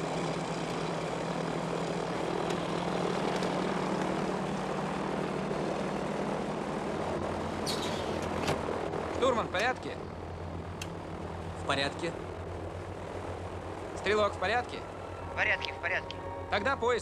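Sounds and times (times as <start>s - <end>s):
deeper hum: 0.0s - 17.0s
piston engine droning: 0.0s - 17.0s.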